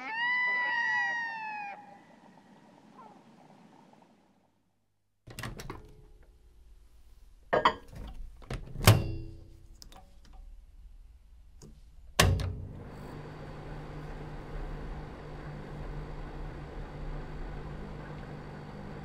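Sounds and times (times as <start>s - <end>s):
low hum with hiss: 0.0s - 19.0s.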